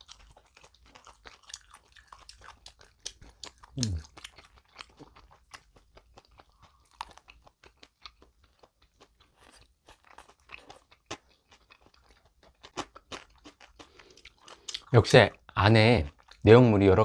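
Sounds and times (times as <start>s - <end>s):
chewing crunches: 0.0s - 15.4s.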